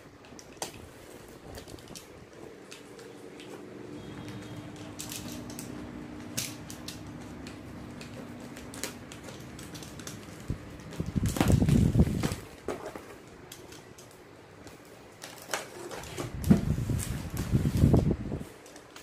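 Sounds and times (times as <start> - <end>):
plastic wrap and cardboard rustling: 0.0 - 19.0.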